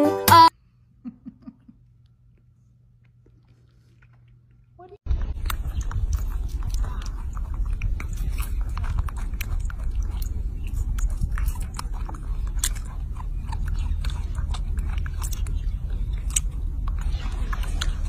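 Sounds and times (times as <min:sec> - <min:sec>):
low steady rumble: 0:00.8 - 0:18.0
monkey chewing juicy fruit: 0:03.0 - 0:18.0.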